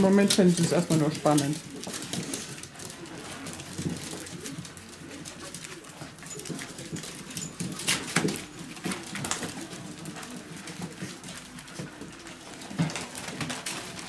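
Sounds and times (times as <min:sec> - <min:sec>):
scuffling clicks and knocks: 0:00.0 - 0:14.0.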